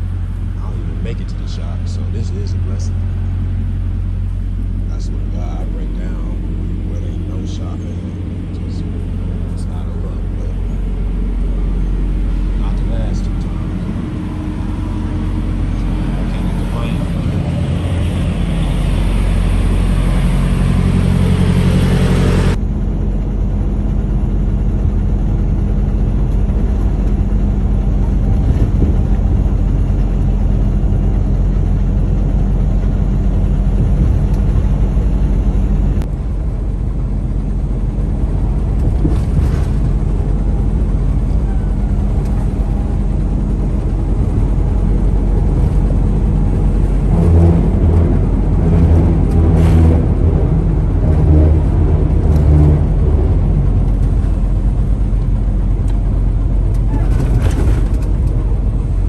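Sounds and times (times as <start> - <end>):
truck engine drone: 0.0 - 59.0.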